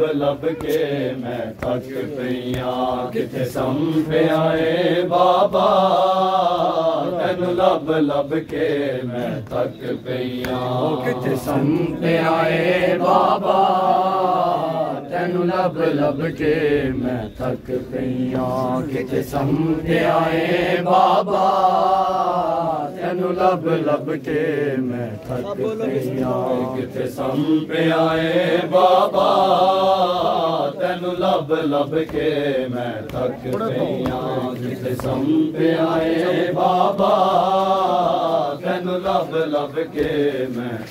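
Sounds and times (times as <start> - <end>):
man chanting a lament: 0.0 - 40.9.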